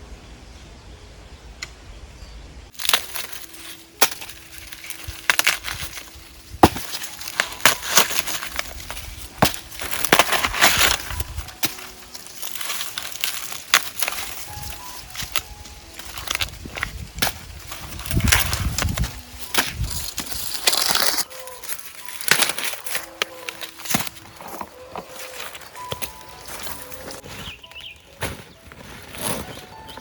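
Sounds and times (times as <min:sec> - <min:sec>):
stalks snapping: 0:02.7 - 0:27.2
dry plants rustling: 0:02.7 - 0:30.0.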